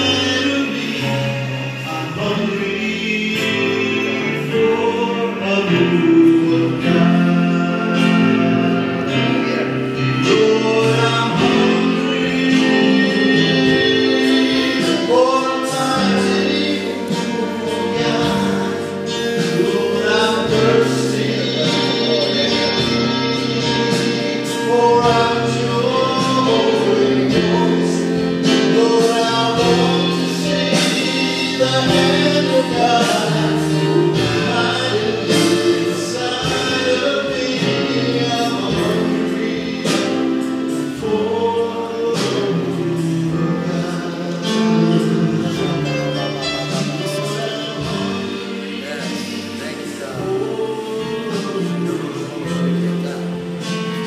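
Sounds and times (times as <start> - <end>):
group singing gospel song: 0.0 - 54.0.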